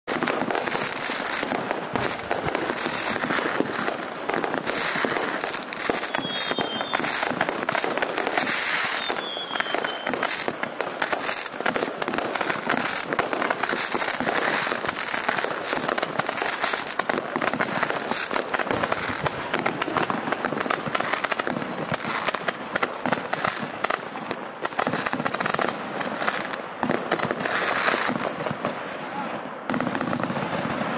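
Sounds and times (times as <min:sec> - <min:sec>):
firework pops and crackling: 0:00.1 - 0:30.9.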